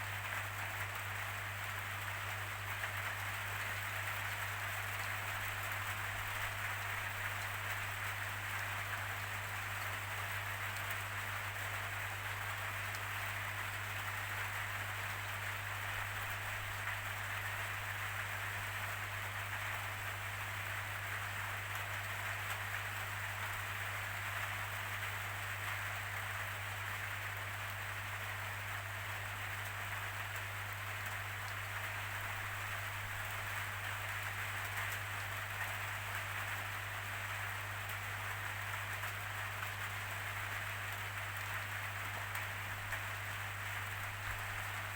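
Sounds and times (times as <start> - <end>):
steady rainfall: 0.0 - 44.9.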